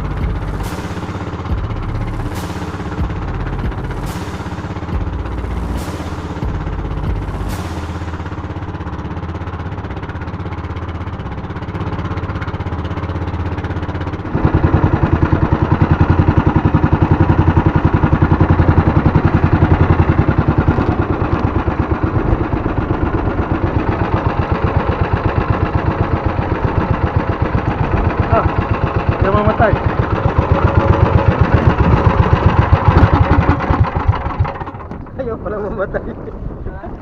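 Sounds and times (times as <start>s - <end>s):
small boat engine chugging: 0.0s - 37.0s.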